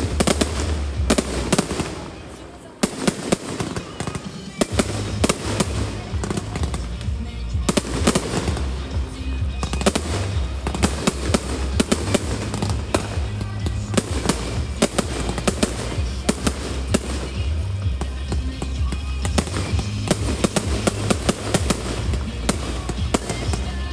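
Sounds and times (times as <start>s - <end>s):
music with heavy bass: 0.0s - 1.9s, 4.6s - 23.9s
fireworks bangs and crackles: 0.0s - 23.9s.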